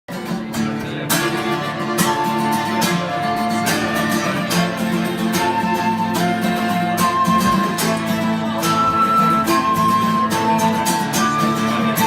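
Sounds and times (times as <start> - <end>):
acoustic guitar strumming: 0.1 - 12.0.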